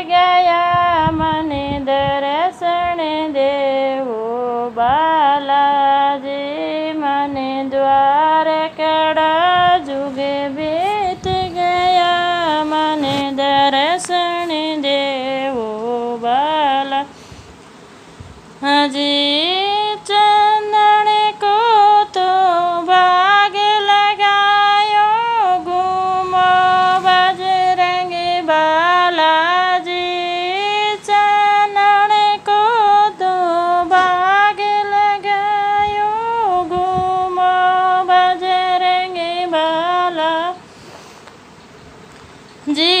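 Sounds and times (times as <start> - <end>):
woman singing devotional song: 0.0 - 41.2, 42.2 - 43.0.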